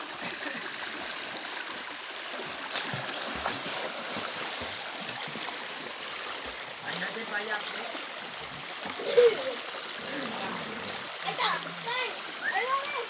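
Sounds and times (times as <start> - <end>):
water rushing over stones: 0.0 - 13.0.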